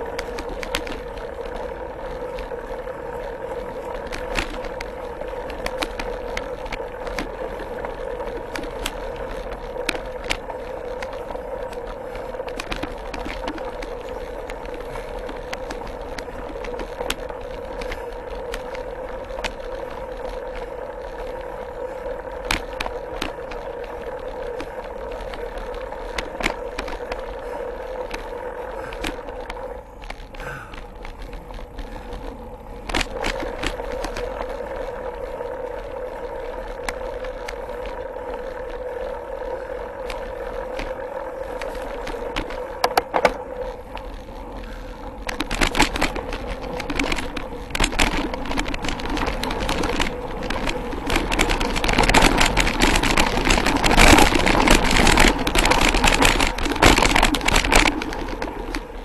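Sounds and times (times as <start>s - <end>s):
bike clicks and rattles: 0.0s - 59.0s
hum of bike tyres: 0.0s - 59.0s.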